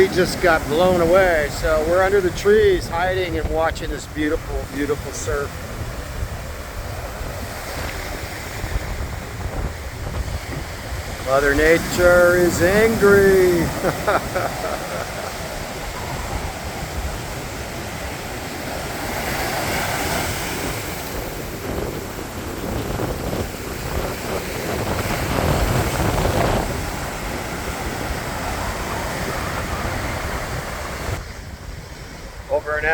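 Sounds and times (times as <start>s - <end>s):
heavy surf crashing: 0.0s - 32.9s
wind gusting across microphone: 0.0s - 32.9s.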